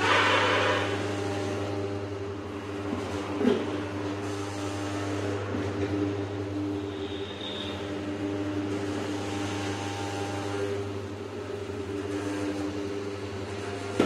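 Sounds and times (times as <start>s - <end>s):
electric motor humming: 0.0s - 14.0s.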